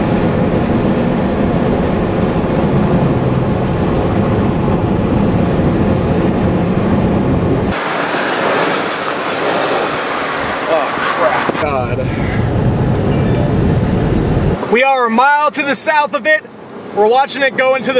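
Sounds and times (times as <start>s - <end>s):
wind buffeting microphone: 0.0s - 14.8s
hissing rush of wind: 0.0s - 17.9s.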